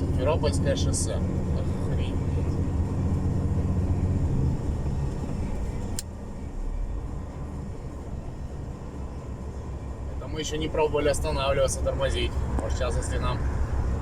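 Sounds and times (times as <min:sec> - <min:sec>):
diesel engine drone in cab: 0:00.0 - 0:14.0.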